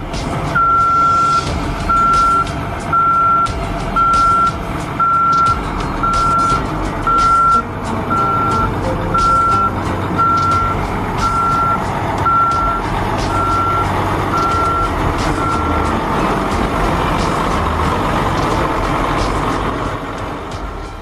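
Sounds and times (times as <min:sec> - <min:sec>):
heavy vehicle engine running: 0:00.0 - 0:21.0
vehicle backup alarm beeping: 0:00.6 - 0:17.8.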